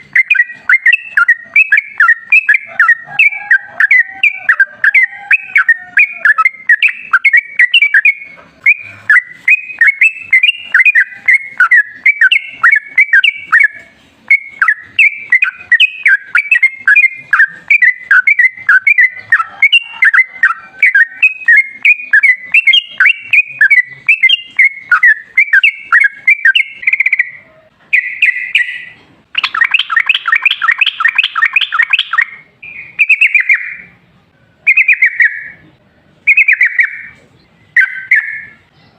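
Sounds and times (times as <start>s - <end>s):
bird singing: 0.0s - 34.0s, 34.6s - 38.9s.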